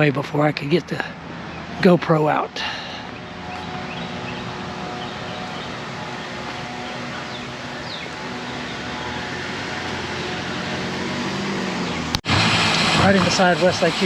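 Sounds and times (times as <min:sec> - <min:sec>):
distant road traffic hum: 0:00.0 - 0:14.0.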